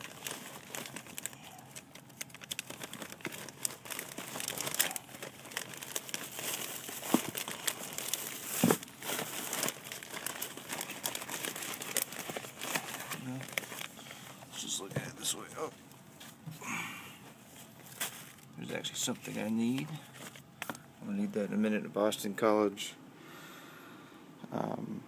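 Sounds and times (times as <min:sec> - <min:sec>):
plastic bags crinkling: 0:00.0 - 0:16.4, 0:17.3 - 0:21.3
papers rustling: 0:00.0 - 0:16.6, 0:17.2 - 0:20.9.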